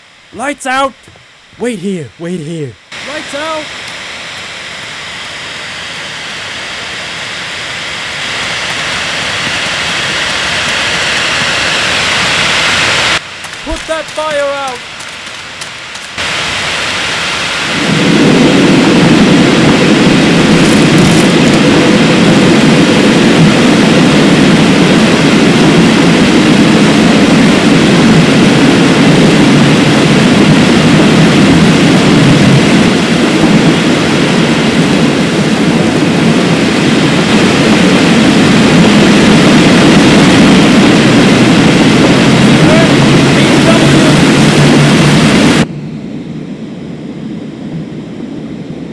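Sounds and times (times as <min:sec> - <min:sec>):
gas and oil rushing roar: 0:00.0 - 0:48.9.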